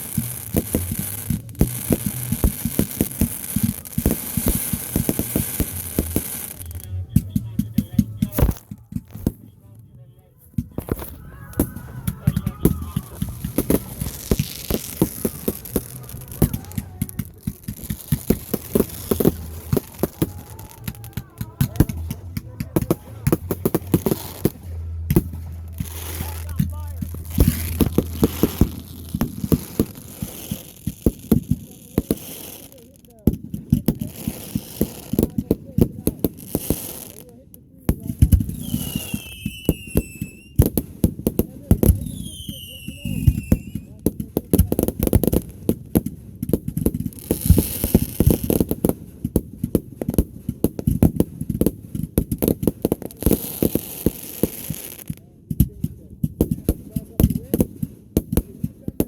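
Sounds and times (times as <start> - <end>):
hissing crackle: 0.0 - 9.6, 10.6 - 55.3
fireworks popping and banging: 0.0 - 59.0.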